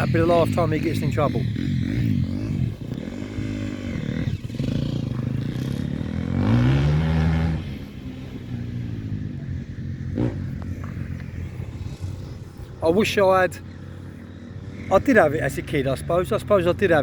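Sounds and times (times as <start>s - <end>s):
motocross bike engines: 0.0s - 17.0s
motorbike engine revving: 0.0s - 17.0s.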